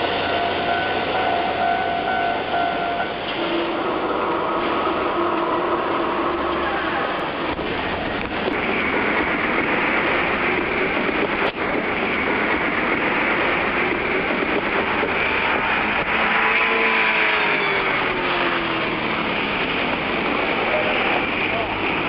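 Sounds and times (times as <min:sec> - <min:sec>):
electric train running past: 0:00.0 - 0:22.0
falling whine: 0:00.0 - 0:22.0.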